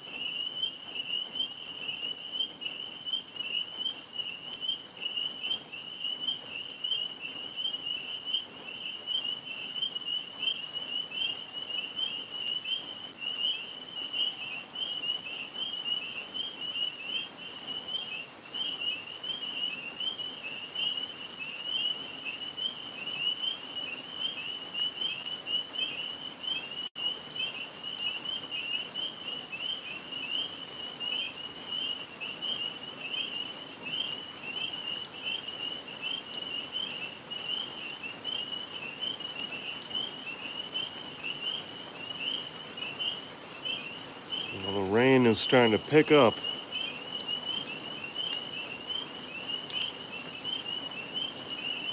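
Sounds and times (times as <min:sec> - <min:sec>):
faint steady hiss: 0:00.0 - 0:51.9
tree frogs trilling: 0:00.0 - 0:51.9.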